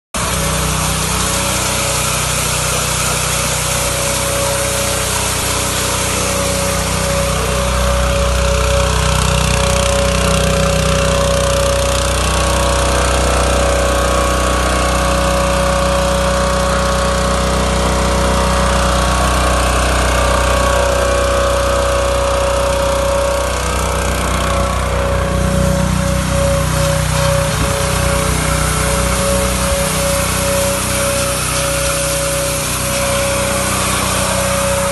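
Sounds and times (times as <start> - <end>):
high-pressure water jet whine: 0.2 - 34.9
pressure washer engine running: 0.2 - 34.9.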